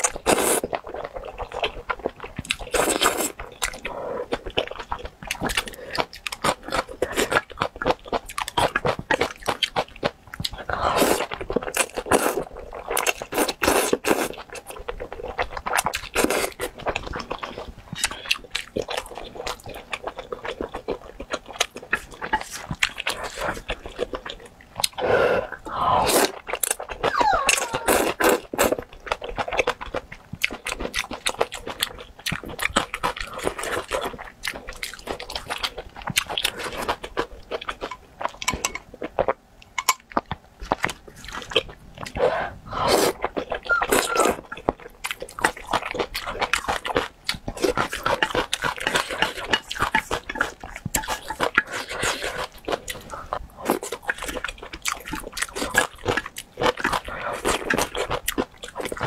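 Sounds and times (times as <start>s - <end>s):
chewing with smacking clicks: 0.0s - 25.0s, 26.3s - 42.2s, 43.2s - 59.0s.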